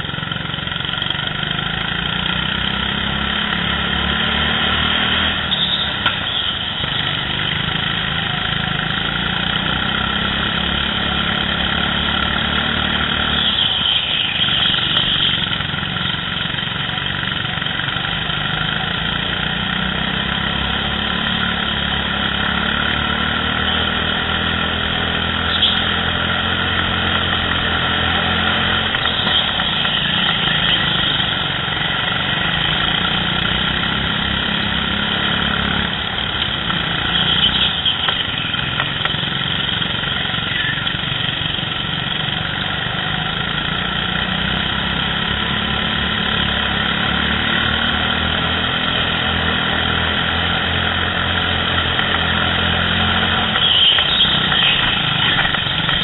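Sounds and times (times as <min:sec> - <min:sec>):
go-kart engines racing: 0:00.0 - 0:56.0.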